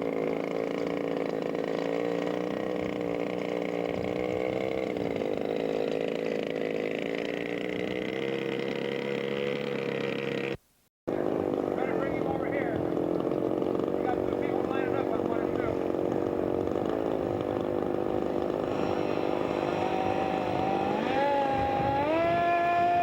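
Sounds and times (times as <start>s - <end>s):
model airplane engine running: 0.0s - 23.0s.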